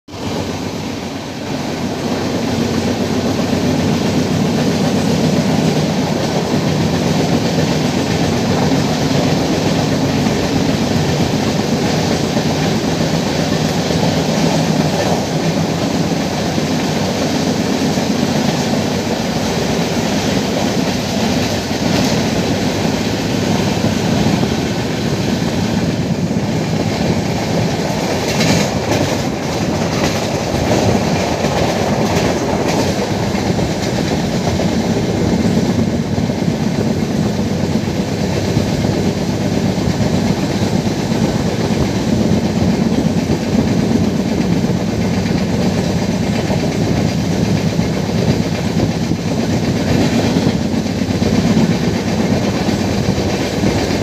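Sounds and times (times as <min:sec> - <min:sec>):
passing freight wagons: 0:00.1 - 0:54.0
train wheels on rails: 0:00.1 - 0:54.0.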